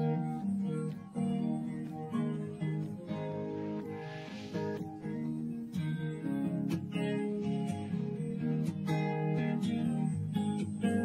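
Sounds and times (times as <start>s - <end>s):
acoustic guitar background music: 0.0s - 11.0s.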